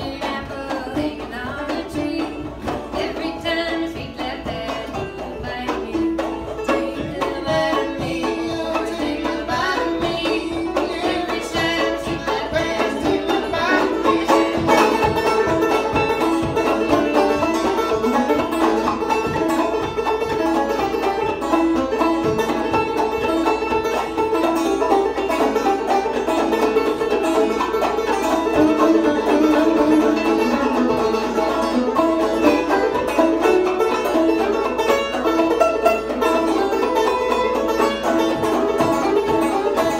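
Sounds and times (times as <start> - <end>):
banjos playing: 0.0 - 39.9.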